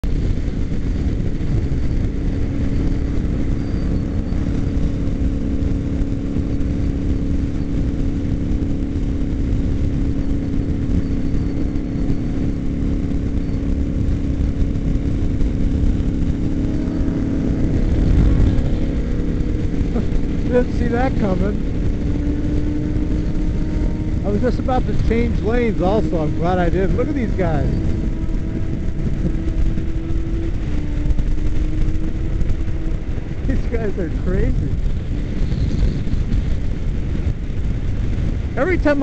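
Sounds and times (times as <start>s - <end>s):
motorcycle engine cruising: 0.0s - 39.0s
wind buffeting microphone: 0.0s - 39.0s.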